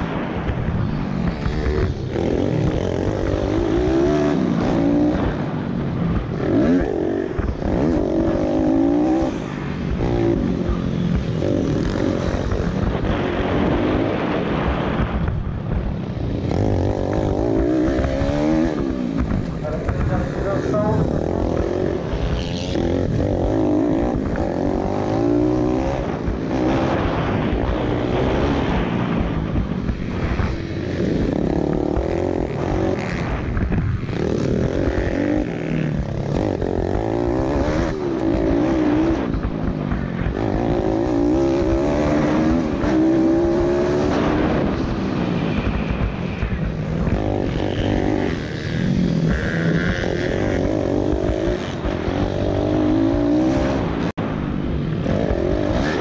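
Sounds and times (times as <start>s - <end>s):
motorbike engine revving: 0.0s - 56.0s
wind rush: 0.0s - 56.0s.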